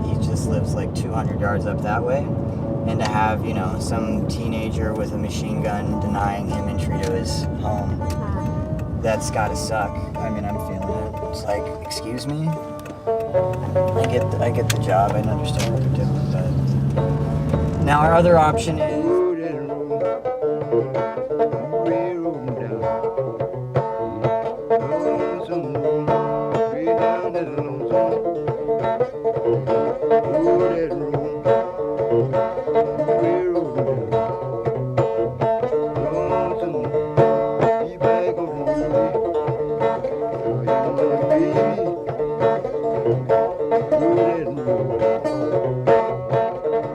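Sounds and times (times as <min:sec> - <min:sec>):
bluegrass plucked strings music: 0:00.0 - 0:46.9.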